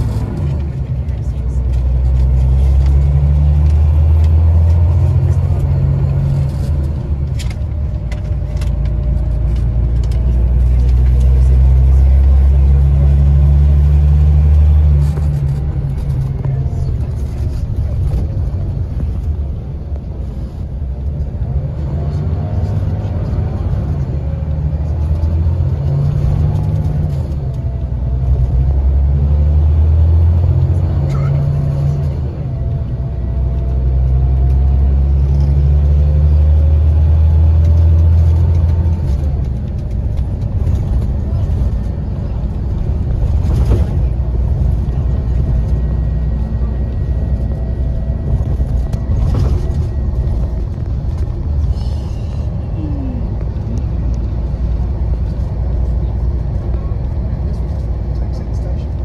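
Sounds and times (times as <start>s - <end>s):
diesel engine pulling under load: 0.0s - 59.0s
road and tyre noise: 0.0s - 59.0s.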